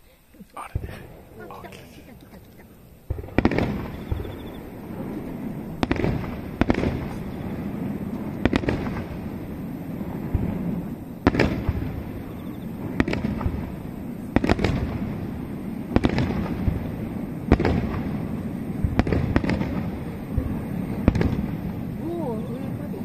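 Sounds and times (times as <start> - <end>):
firework shells bursting: 0.4 - 22.1.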